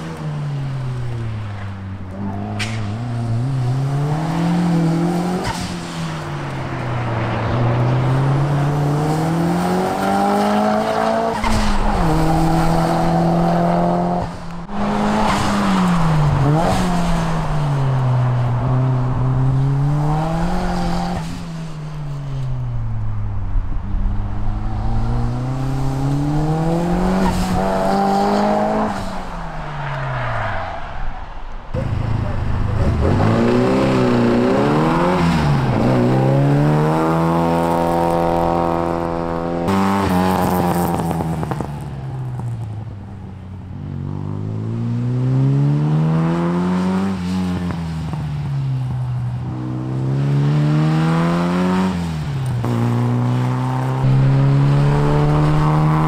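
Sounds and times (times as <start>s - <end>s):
car engine revving: 0.0s - 21.7s, 22.4s - 43.0s, 49.5s - 56.0s.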